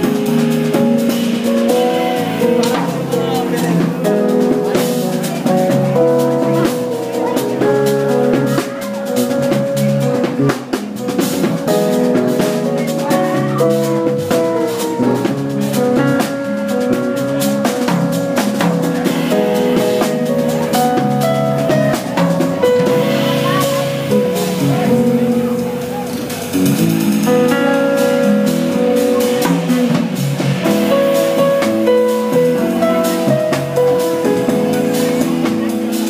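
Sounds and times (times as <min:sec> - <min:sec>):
bass line: 0:00.0 - 0:36.0
busy drumming: 0:00.0 - 0:36.0
keyboard chords: 0:00.0 - 0:36.0.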